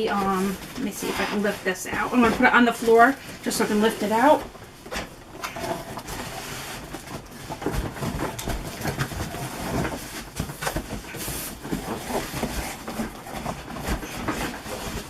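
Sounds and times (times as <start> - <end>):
cardboard box and packing rustling: 0.0 - 15.0.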